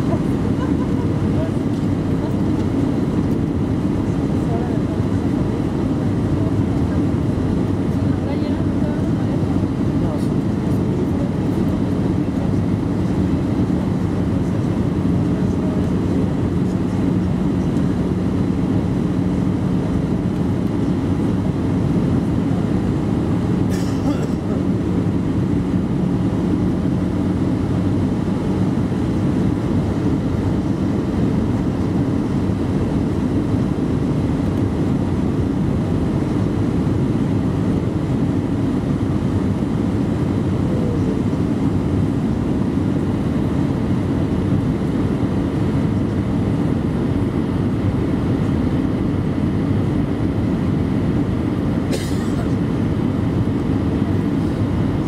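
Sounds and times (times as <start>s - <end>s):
airplane cabin engine hum: 0.0s - 55.0s.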